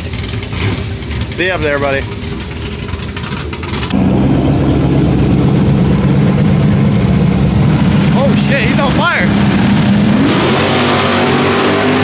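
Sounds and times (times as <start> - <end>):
racing engine rumbling: 0.0 - 12.0.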